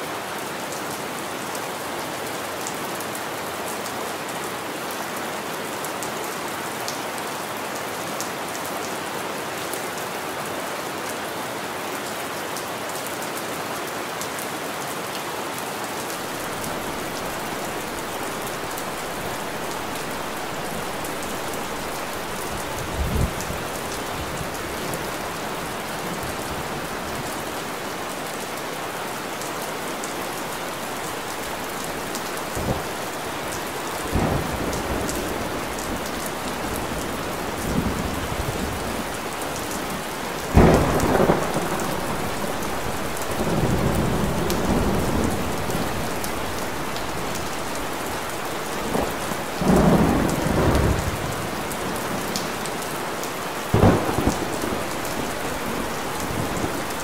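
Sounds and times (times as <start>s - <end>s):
rain hissing on hard surfaces: 0.0s - 57.0s.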